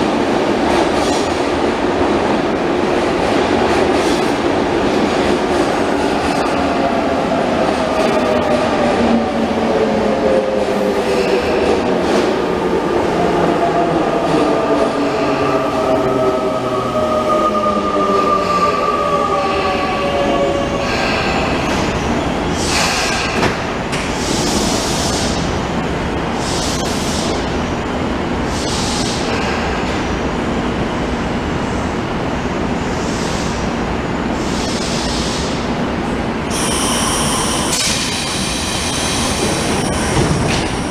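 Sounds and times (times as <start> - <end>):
train wheels rolling on rails: 0.0 - 40.9.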